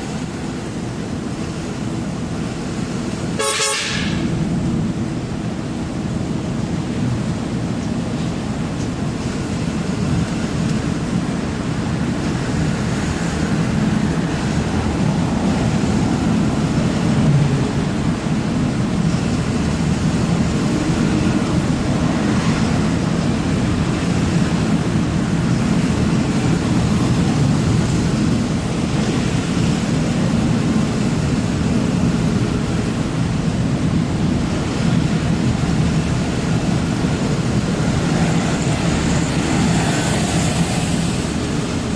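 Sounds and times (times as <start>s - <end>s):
road noise: 0.0s - 41.9s
truck engine drone: 0.0s - 41.9s.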